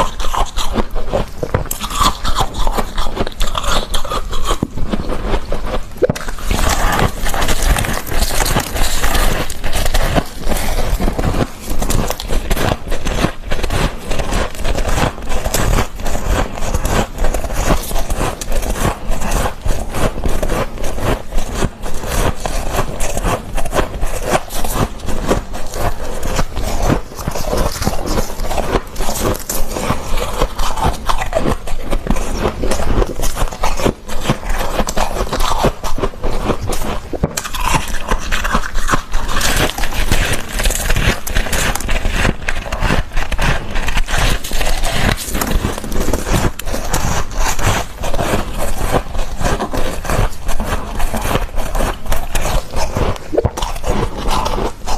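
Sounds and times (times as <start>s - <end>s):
chewing and crunching frost: 0.0s - 54.9s.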